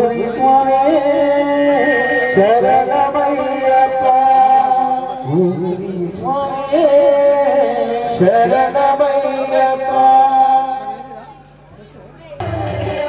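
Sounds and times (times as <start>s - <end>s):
man singing: 0.0s - 11.2s, 12.4s - 13.0s
steady held drone: 0.0s - 13.0s.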